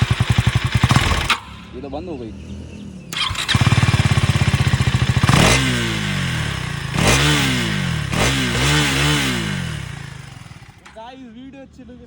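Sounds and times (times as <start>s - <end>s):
motorcycle engine idling: 0.0s - 11.4s
motorcycle throttle blips: 0.0s - 11.4s.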